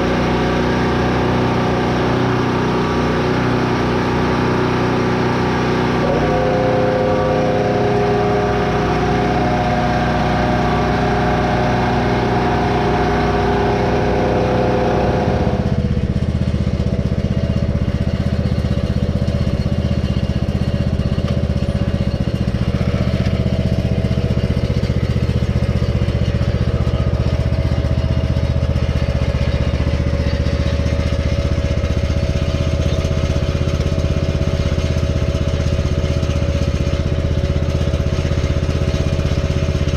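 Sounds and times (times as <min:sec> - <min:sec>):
deep steady hum: 0:00.0 - 0:39.9
generator engine running: 0:00.0 - 0:39.9.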